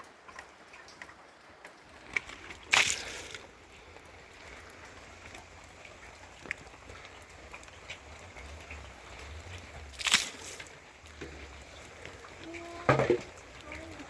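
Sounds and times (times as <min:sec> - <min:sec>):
steady rain falling: 0:00.0 - 0:14.0
drops ticking on a surface: 0:00.2 - 0:14.0.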